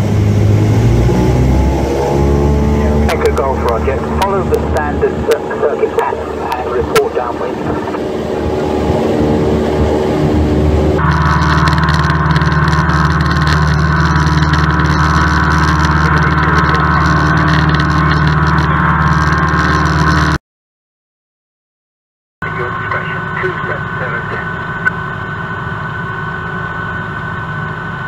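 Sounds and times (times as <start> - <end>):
propeller aircraft engine droning: 0.0 - 20.4, 22.4 - 28.0.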